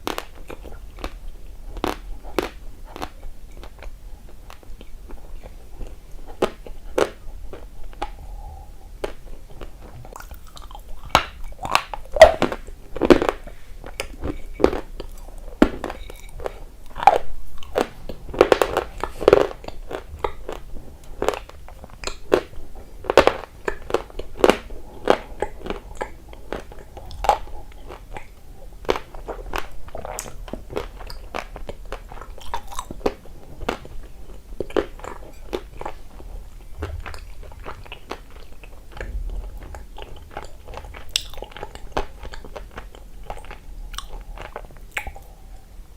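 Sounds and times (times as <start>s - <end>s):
person crunching and chewing: 0.0s - 45.7s.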